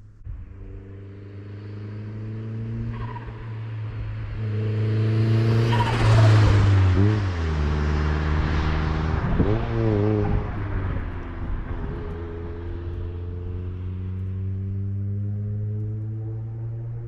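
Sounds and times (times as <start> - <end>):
car engine driving away: 0.2 - 17.0.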